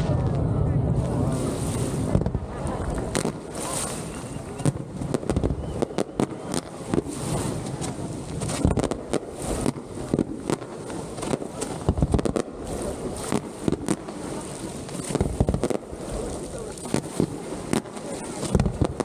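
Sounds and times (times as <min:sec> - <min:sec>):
firework bursts and bangs: 0:00.0 - 0:19.0
rumble of explosions: 0:00.0 - 0:19.0.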